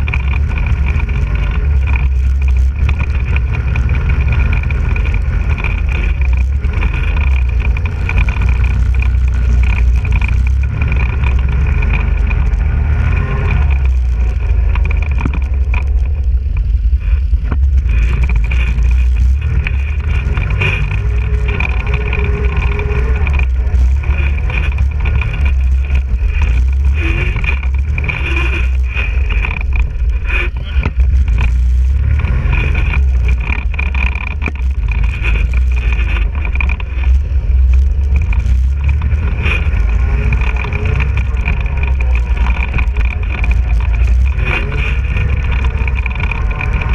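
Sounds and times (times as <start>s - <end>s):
atv engine running: 0.0s - 46.9s
knocks and rattles from bumps: 0.0s - 46.9s.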